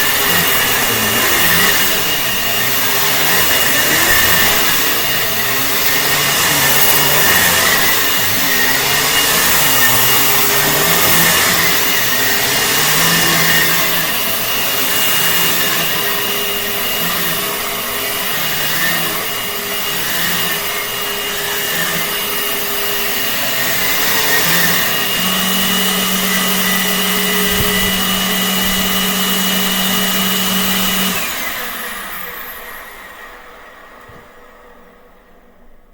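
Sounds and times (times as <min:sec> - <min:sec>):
vacuum cleaner motor whining: 0:00.0 - 0:35.9.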